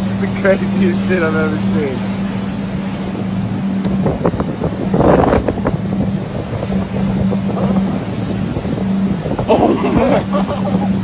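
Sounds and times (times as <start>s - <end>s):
engine humming: 0.0s - 11.0s
wind buffeting the microphone: 0.0s - 11.0s.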